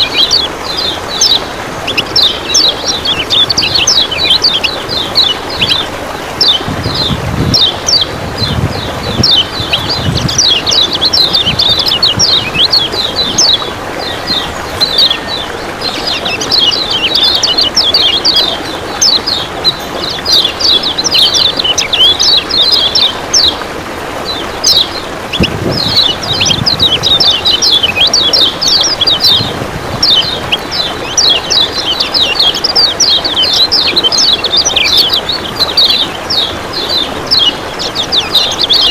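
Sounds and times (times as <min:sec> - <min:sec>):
bird singing high chirps: 0:00.0 - 0:23.6, 0:24.3 - 0:38.9
running water: 0:00.0 - 0:38.9.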